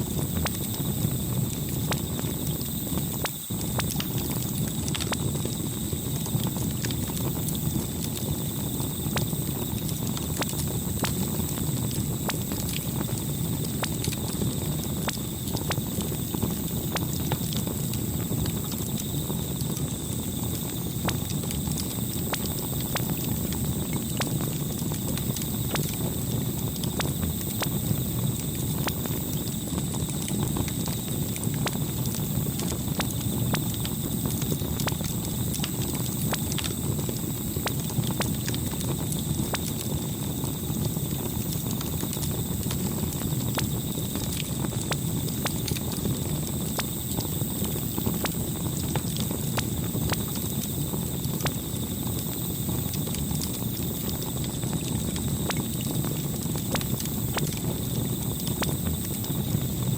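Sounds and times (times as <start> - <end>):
campfire flames rushing: 0.0 - 59.9
wood crackling and popping: 0.0 - 59.9.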